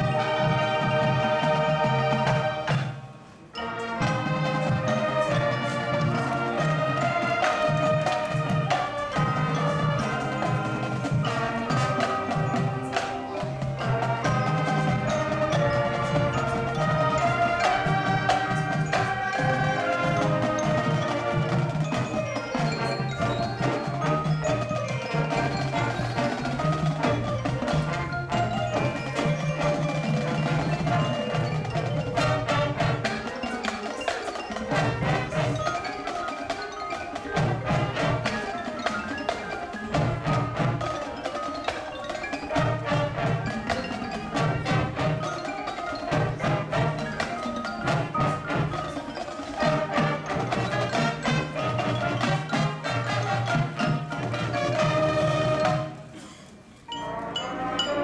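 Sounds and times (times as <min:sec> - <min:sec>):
mallet percussion notes: 0:00.0 - 0:58.0
marching band playing: 0:00.0 - 0:58.0.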